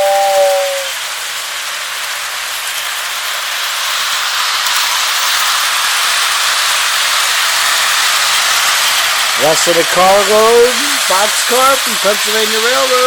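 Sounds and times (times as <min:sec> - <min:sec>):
model train wheels hissing on rails: 0:00.0 - 0:13.0.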